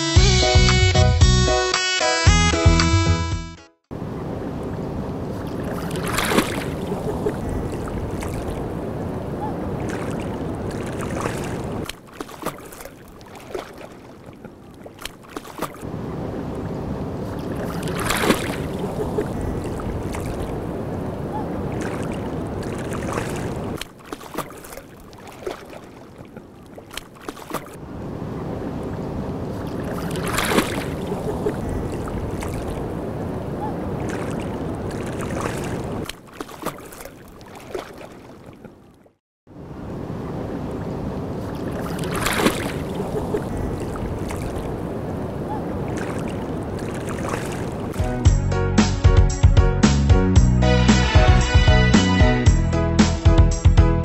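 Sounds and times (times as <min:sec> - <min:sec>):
rushing water: 0:03.9 - 0:48.3.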